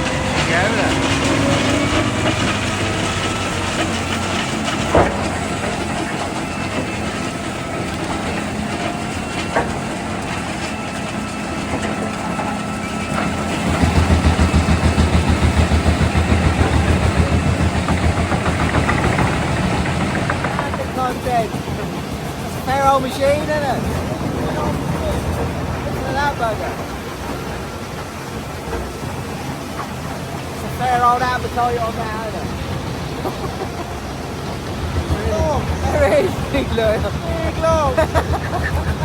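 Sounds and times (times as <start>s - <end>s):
wood chipper running: 0.0s - 39.0s.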